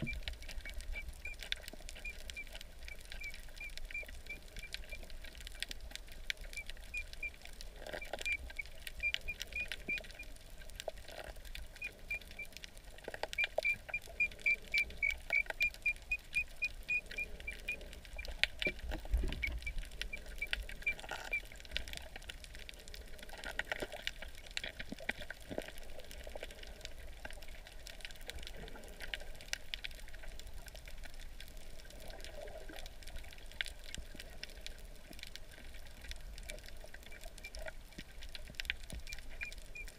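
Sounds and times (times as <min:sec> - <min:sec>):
faint low underwater rumble: 0:00.0 - 0:39.9
underwater clicks and crackles: 0:00.0 - 0:39.9.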